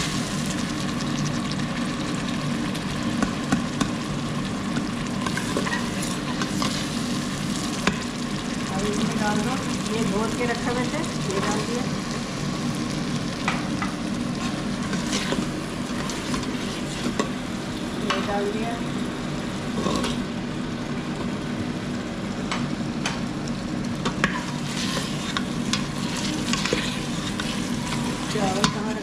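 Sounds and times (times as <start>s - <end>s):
food sizzling in oil: 0.0s - 29.0s
steady low hum: 0.0s - 29.0s.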